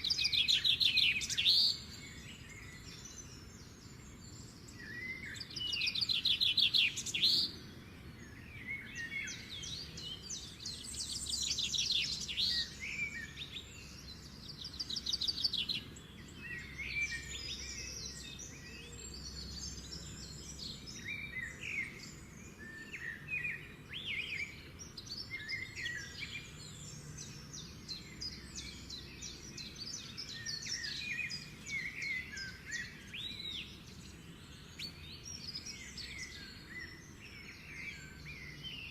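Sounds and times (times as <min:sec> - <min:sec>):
birds chirping and singing: 0:00.0 - 0:38.9
faint low background noise: 0:00.0 - 0:38.9.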